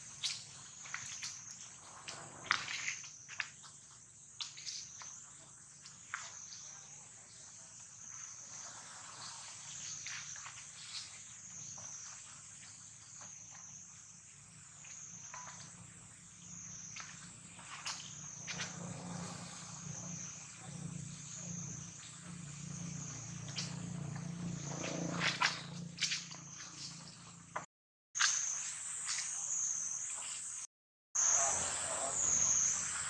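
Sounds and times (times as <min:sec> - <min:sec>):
rustles: 0:00.0 - 0:30.6
insect chorus: 0:00.0 - 0:33.0.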